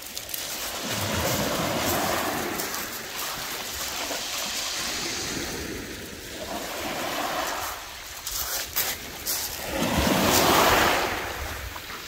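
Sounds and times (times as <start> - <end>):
waves washing over shingle: 0.0 - 12.0.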